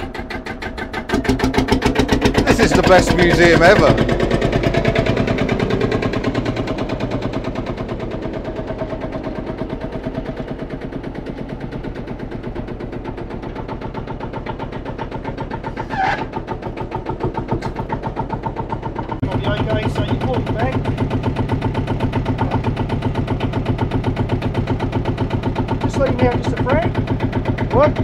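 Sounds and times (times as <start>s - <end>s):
tractor diesel engine popping: 0.0s - 28.0s.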